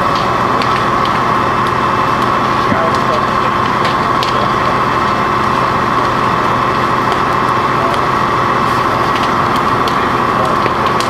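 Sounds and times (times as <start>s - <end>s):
faint fire crackling: 0.0s - 11.0s
fire engine idling: 0.0s - 11.0s.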